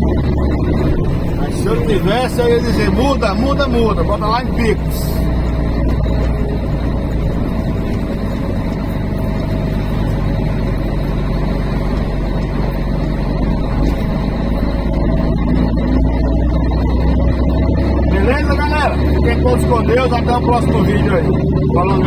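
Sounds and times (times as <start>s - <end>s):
road noise: 0.0s - 22.0s
truck diesel engine running: 0.0s - 22.0s.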